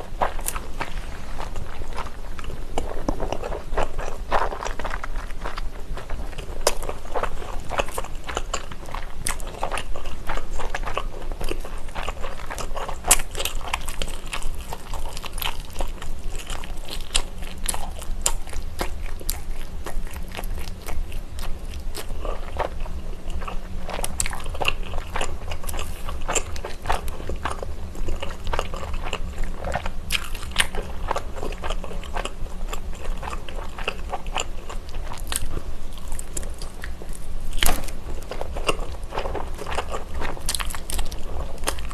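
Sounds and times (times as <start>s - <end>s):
close-miked chewing: 0.0s - 41.9s.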